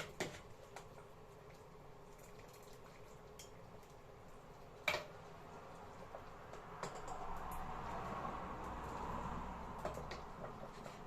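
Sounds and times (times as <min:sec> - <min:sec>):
small kitchen clicks: 0:00.0 - 0:07.6, 0:09.8 - 0:11.0.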